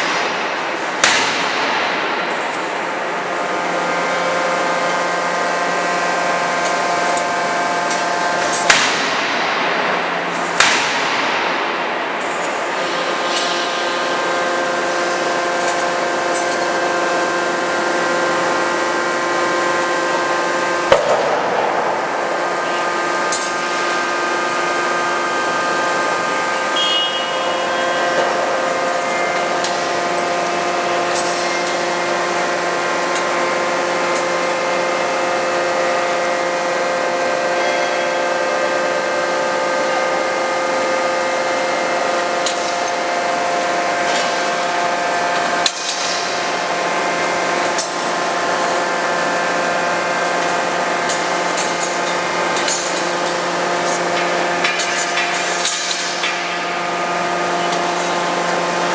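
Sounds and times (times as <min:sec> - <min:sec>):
forging machinery humming: 0:00.0 - 0:58.9.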